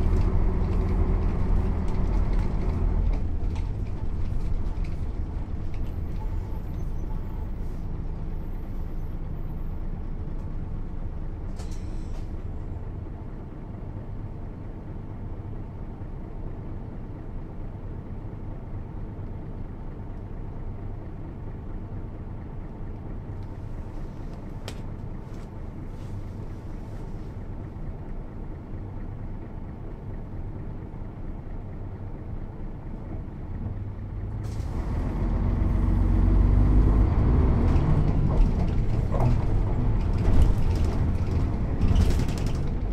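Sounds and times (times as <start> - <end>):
diesel bus engine running: 0.0 - 42.9.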